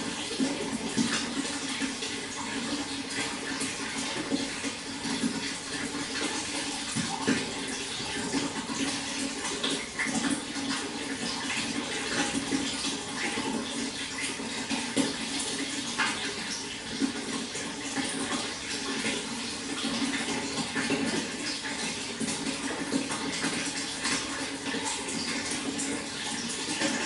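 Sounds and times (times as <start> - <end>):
running water with splashes: 0.0 - 27.0.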